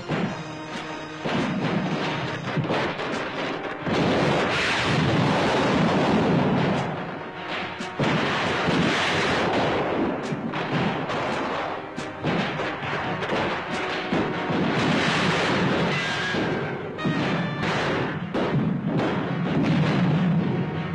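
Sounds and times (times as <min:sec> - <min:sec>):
music score: 0:00.0 - 0:18.3
dense rifle gunfire: 0:00.0 - 0:20.9.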